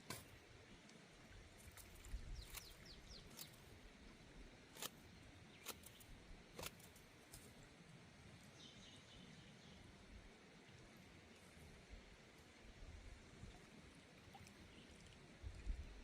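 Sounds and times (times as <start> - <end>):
soft outdoor hiss: 0.0 - 16.0.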